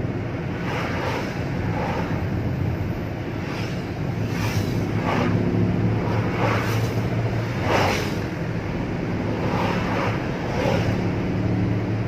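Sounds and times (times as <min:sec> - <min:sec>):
low car engine drone: 0:00.0 - 0:12.0
road and wind noise: 0:00.0 - 0:12.0.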